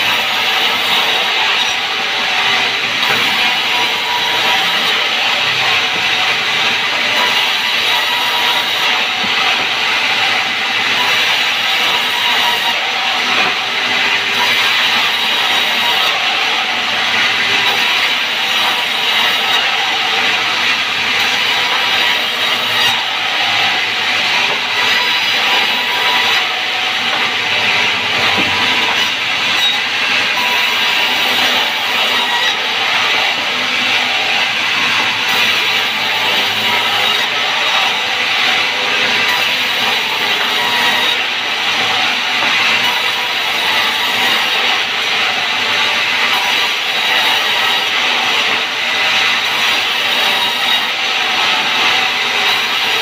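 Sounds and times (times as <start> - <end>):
band saw cutting timber: 0.0 - 53.0.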